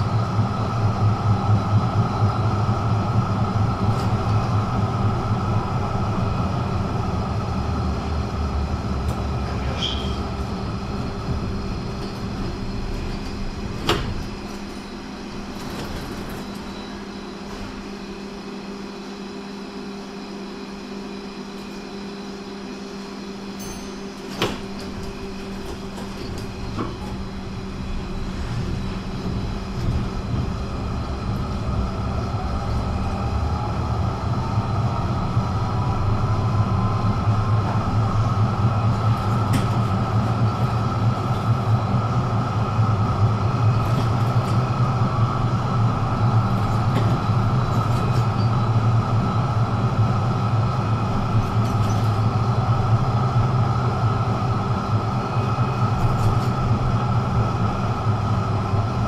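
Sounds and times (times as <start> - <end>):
tram running: 0.0 - 18.9, 20.4 - 59.0.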